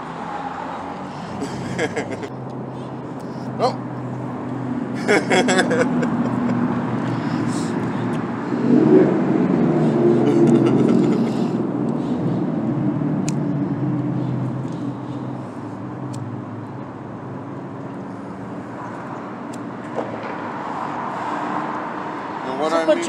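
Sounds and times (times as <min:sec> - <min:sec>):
motor traffic hum: 0:00.0 - 0:23.0
vehicle passing: 0:00.0 - 0:23.0.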